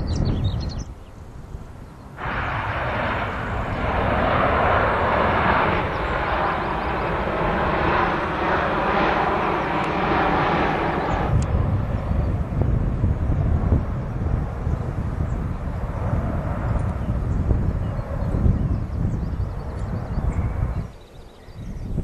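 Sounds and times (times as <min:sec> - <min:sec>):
jet airliner flying past: 0:01.5 - 0:22.0.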